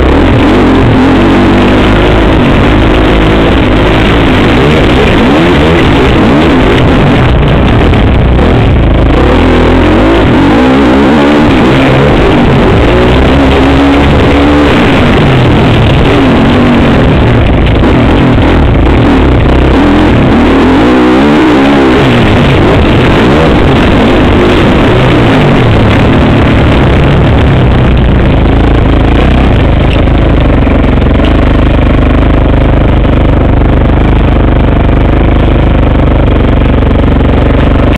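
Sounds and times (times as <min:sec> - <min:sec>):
motocross bike engine revving: 0:00.0 - 0:37.9.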